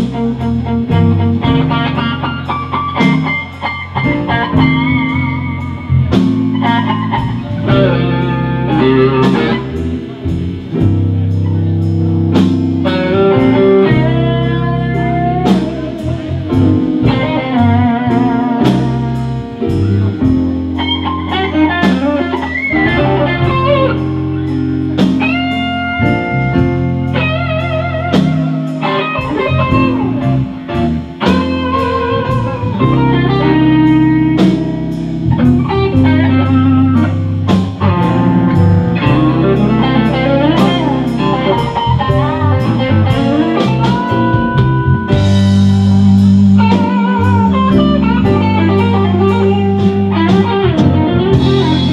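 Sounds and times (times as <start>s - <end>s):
bass line: 0.0s - 51.9s
blues electric guitar solo: 0.0s - 51.9s.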